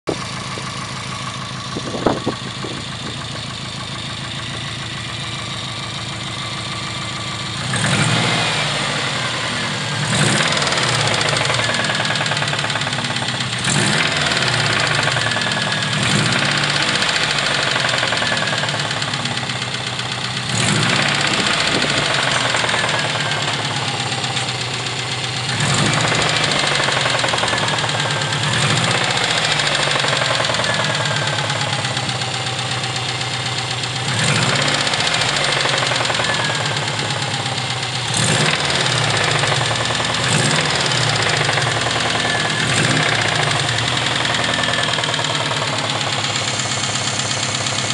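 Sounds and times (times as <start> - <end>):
car engine idling and revving: 0.0 - 47.9
engine knocking: 0.0 - 47.9.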